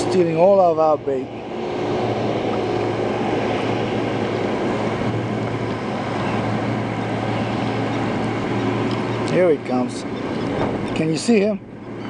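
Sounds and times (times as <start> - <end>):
motorboat engine hum: 0.0 - 12.0
water noise: 0.0 - 12.0
wind: 0.0 - 12.0.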